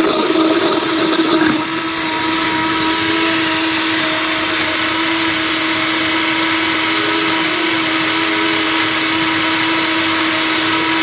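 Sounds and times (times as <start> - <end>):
blender running: 0.0 - 11.0
motor whine: 0.0 - 11.0.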